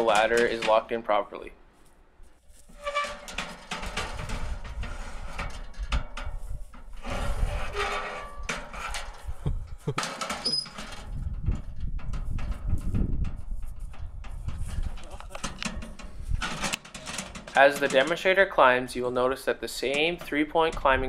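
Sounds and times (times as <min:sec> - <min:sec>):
metal ladder clattering: 0:00.0 - 0:01.0, 0:02.7 - 0:18.7, 0:19.8 - 0:21.0.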